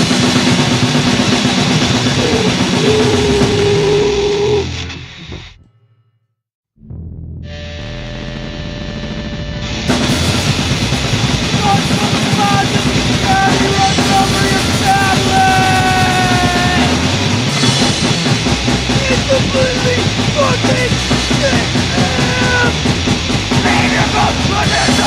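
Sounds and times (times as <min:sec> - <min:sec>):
drum kit: 0:00.0 - 0:05.6, 0:09.6 - 0:25.0
grindcore music: 0:00.0 - 0:05.7, 0:09.7 - 0:25.0.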